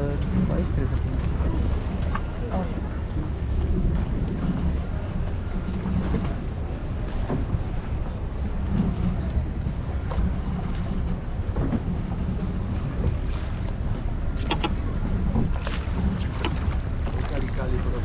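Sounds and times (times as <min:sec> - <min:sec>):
boat engine rumble: 0:00.0 - 0:18.0
wind buffeting microphone: 0:00.0 - 0:18.0.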